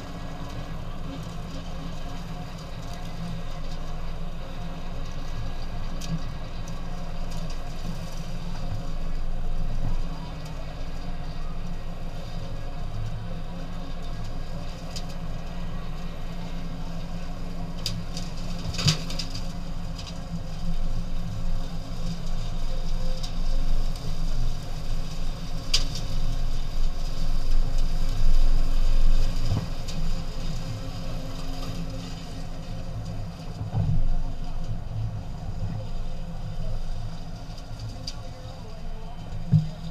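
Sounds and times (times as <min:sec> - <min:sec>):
engine running at low speed: 0:00.0 - 0:39.9.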